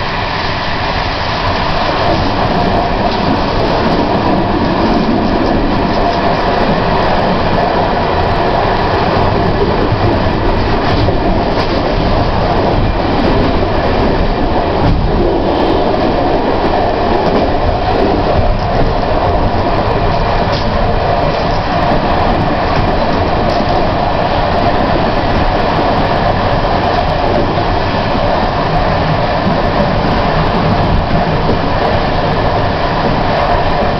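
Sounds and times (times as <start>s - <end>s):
metro train running: 0.0s - 33.9s.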